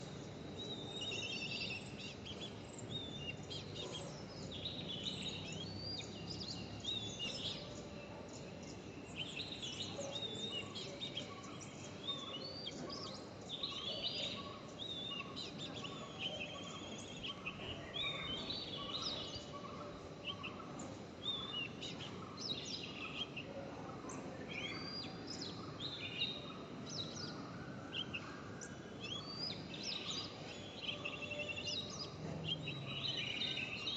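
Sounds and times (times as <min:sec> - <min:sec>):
birds chirping and singing: 0:00.0 - 0:33.9.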